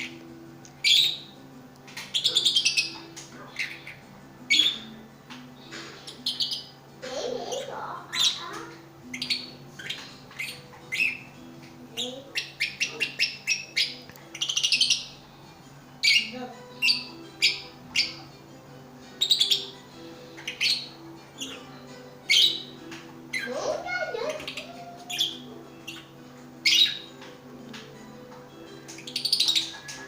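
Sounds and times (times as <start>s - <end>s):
pet birds chirping: 0.0s - 15.3s, 15.9s - 30.0s.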